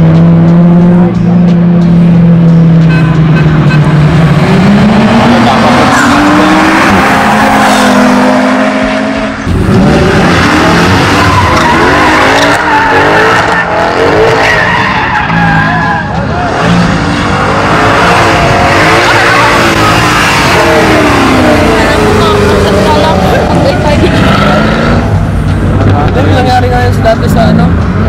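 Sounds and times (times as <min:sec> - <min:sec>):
tires squealing: 0:00.0 - 0:26.5
car engine revving: 0:00.0 - 0:28.0.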